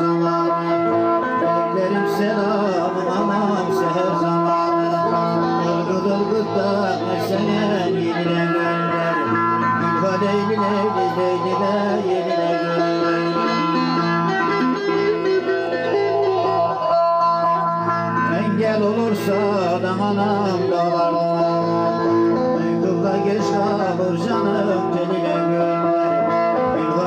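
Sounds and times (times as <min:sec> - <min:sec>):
plucked string folk dance music: 0:00.0 - 0:27.0.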